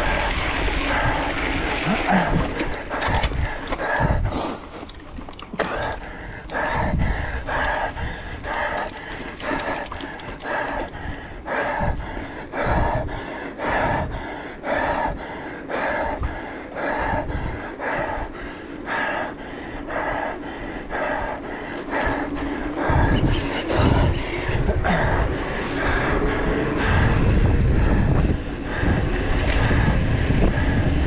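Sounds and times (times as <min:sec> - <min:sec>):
low rumble: 0:00.0 - 0:13.2, 0:15.9 - 0:31.0
person panting: 0:00.0 - 0:31.0.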